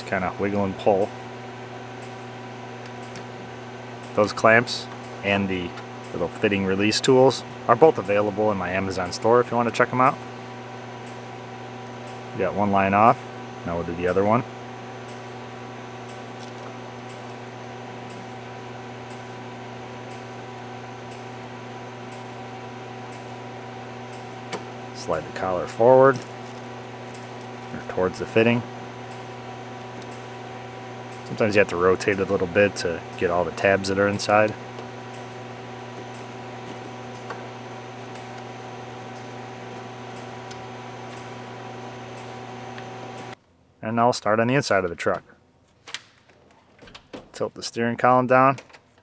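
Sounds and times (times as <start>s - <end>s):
machine humming: 0.0s - 43.4s.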